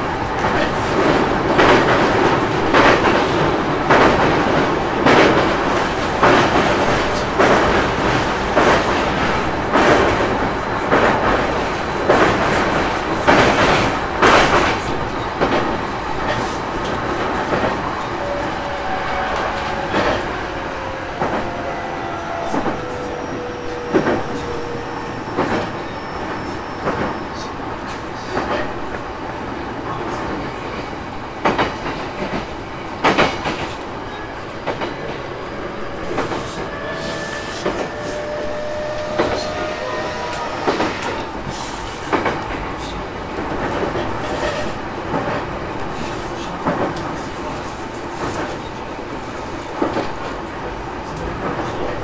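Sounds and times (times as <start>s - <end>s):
train interior running noise: 0.0s - 52.0s.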